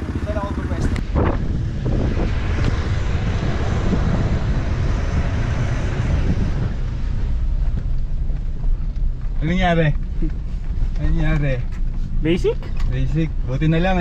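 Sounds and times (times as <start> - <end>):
pickup engine and tyre rumble: 0.0 - 14.0
wind buffeting microphone: 0.0 - 14.0.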